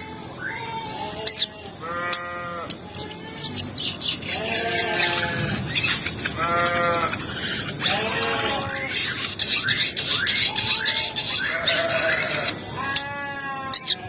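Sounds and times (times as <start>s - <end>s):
bleat-like animal calls: 0.4s - 3.6s, 4.2s - 9.2s, 10.1s - 14.0s.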